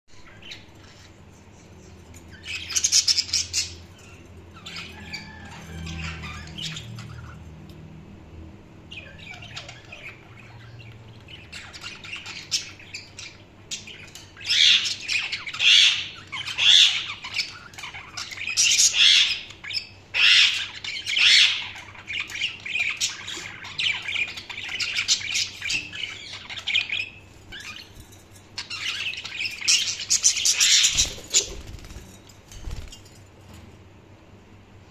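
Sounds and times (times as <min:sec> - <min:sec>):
budgerigars chirping and squawking: 0:00.1 - 0:07.6, 0:08.9 - 0:33.2.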